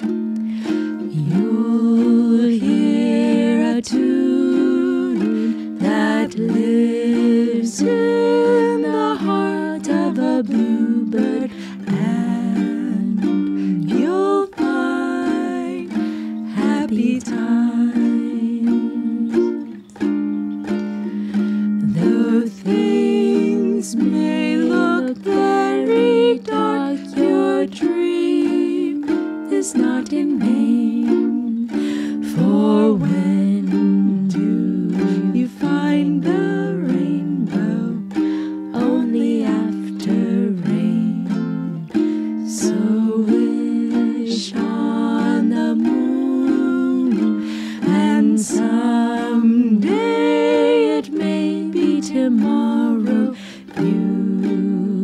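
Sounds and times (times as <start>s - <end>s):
ukulele strumming chords: 0.0s - 55.0s
women singing: 0.0s - 55.0s.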